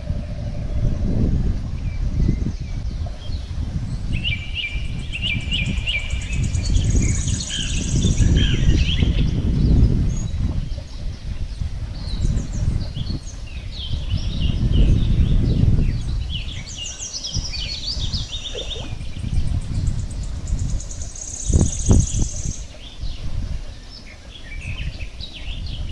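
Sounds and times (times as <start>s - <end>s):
low rumbling noise: 0.0s - 25.9s
birds chirping and trilling: 1.8s - 25.9s.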